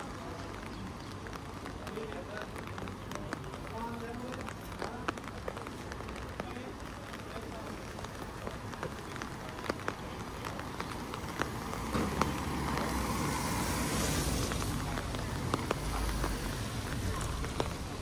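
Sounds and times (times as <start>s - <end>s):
raindrop ticks: 0.0s - 18.0s
tyres hissing on wet road: 0.0s - 18.0s.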